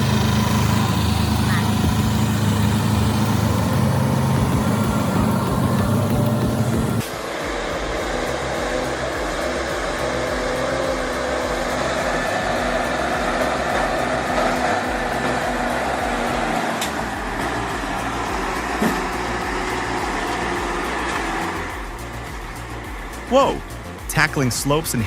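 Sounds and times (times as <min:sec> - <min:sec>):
truck engine running under load: 0:00.0 - 0:07.2, 0:08.2 - 0:24.5.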